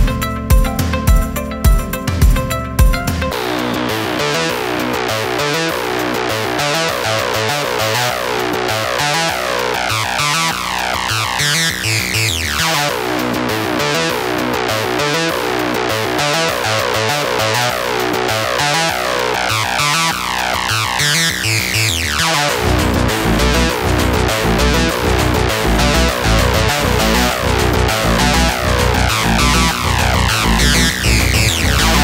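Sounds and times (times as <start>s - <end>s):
upbeat electronic music: 0.0s - 32.0s.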